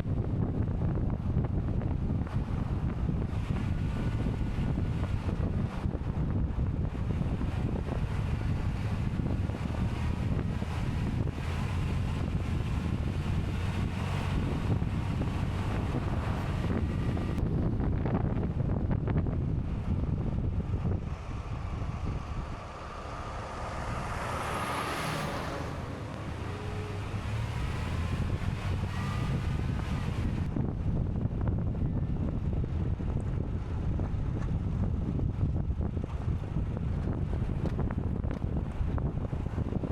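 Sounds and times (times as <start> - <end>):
vehicle running: 0.0 - 39.9
wind buffeting microphone: 0.0 - 39.9.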